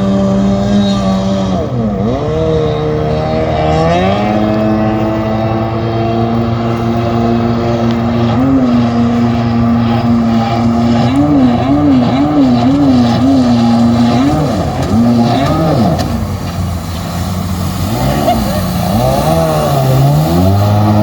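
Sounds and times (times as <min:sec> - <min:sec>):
jet boat engine running: 0:00.0 - 0:21.0.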